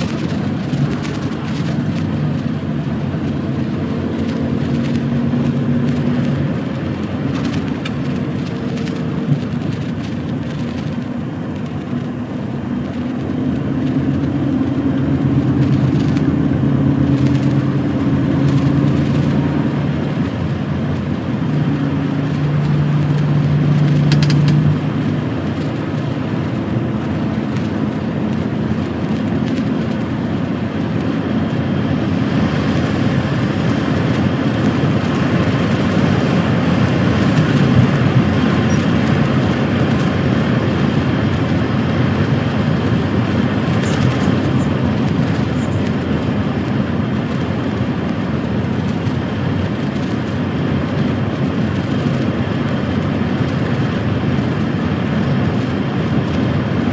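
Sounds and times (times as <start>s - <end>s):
lorry diesel engine: 0.0s - 56.9s
road noise: 0.0s - 56.9s.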